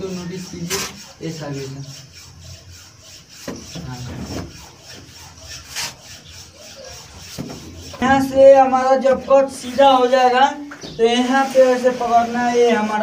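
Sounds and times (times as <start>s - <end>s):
plastering tools scraping wet plaster: 0.0s - 13.0s.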